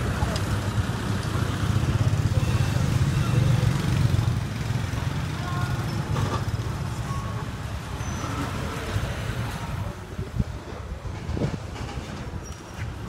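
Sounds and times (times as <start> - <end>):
motorbike engines passing: 0.0 - 13.0
street traffic: 0.0 - 13.0.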